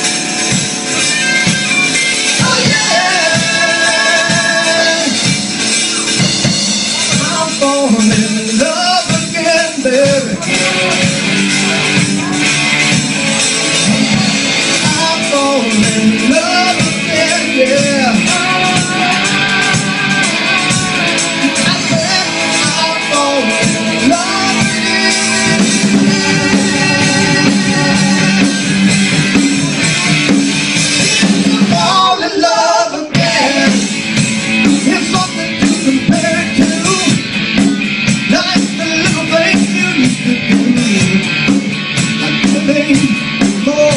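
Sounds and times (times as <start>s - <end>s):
rock band with singer: 0.0s - 43.9s.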